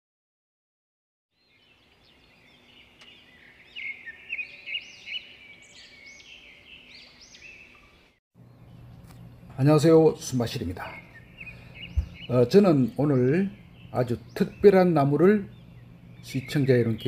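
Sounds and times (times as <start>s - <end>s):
birds chirping and singing: 1.3s - 17.0s.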